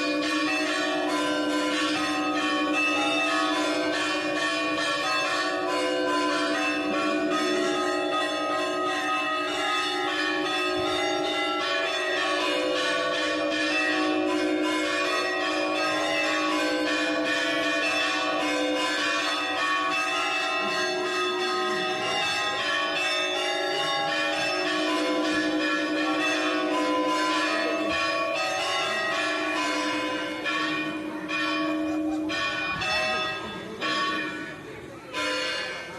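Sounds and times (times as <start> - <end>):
church bells pealing: 0.0 - 35.9.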